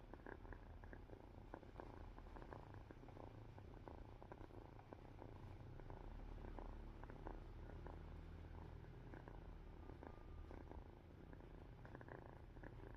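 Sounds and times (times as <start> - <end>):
cat purring: 0.0 - 12.9.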